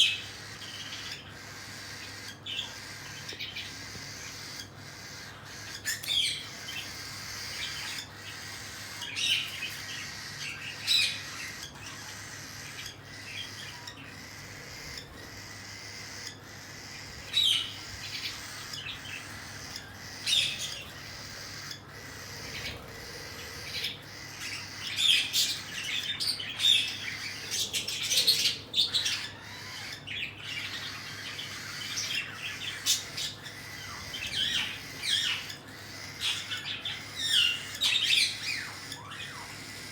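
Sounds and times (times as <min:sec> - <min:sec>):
cockatiels squawking and chirping: 0:00.0 - 0:39.9.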